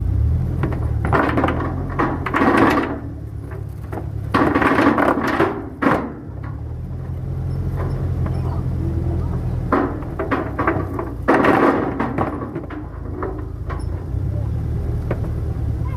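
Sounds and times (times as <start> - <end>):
engine low hum: 0.0 - 15.9
clattering and knocking on deck: 0.5 - 14.2.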